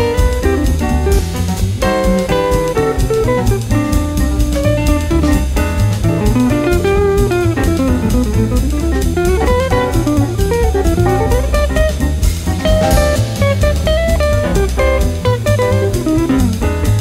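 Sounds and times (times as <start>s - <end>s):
drums: 0.0s - 17.0s
jazz guitar melody: 0.0s - 17.0s
low rhythm section: 0.0s - 17.0s.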